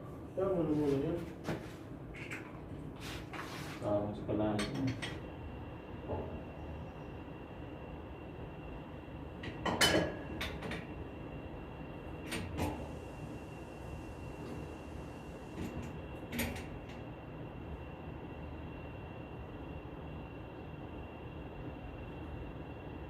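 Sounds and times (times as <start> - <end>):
faint high whine: 3.8 - 23.0.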